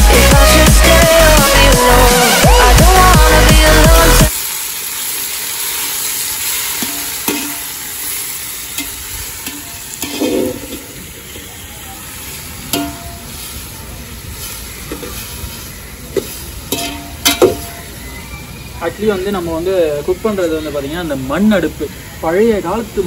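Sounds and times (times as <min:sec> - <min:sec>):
oil sizzling in a pot: 0:04.2 - 0:23.0.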